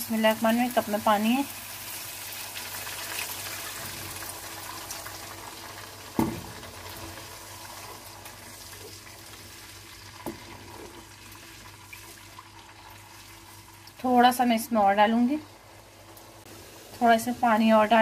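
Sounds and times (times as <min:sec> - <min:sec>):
water sizzling in a hot wok: 0:00.0 - 0:18.0.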